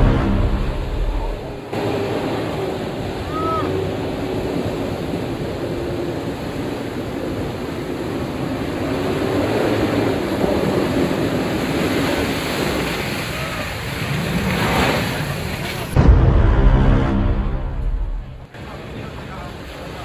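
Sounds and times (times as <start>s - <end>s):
tyres rushing through mud: 0.0s - 16.0s.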